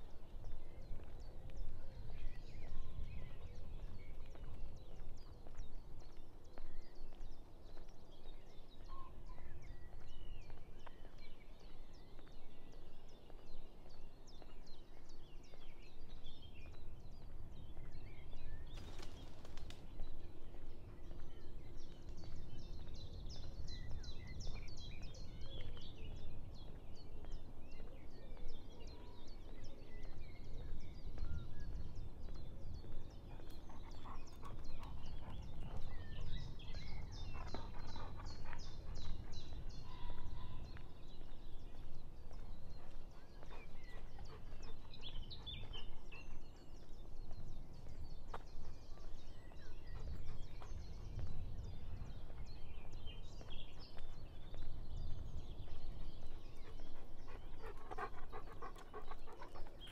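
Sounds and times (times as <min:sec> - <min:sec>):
birds singing and chirping: 0:00.1 - 0:59.9.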